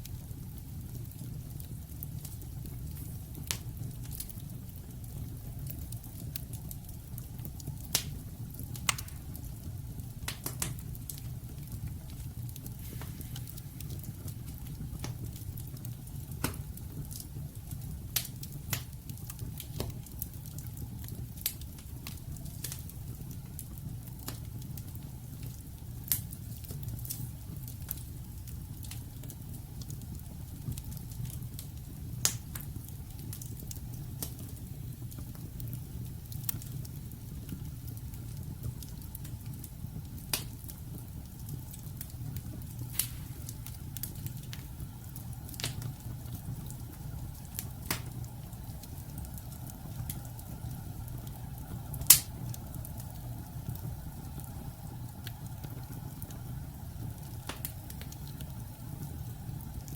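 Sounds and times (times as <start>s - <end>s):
low rumble of flame: 0.0s - 59.9s
wood crackling and popping: 0.0s - 59.9s.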